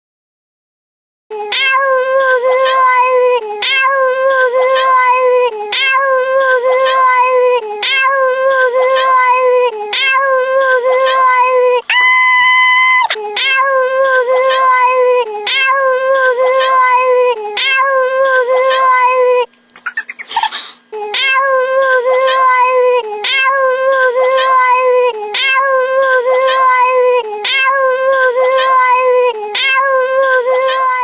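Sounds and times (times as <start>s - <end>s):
high-pitched wailing voice: 1.3s - 31.0s.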